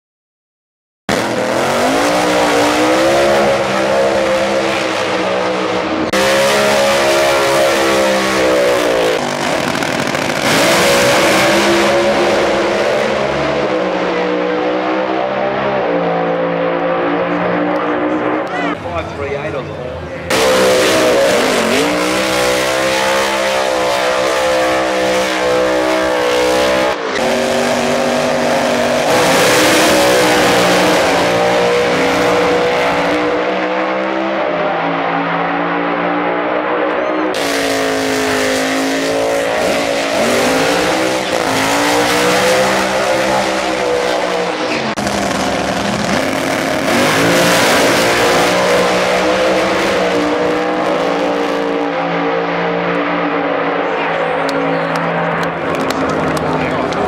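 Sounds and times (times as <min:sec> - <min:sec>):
drag race engines revving: 0:01.1 - 0:57.0.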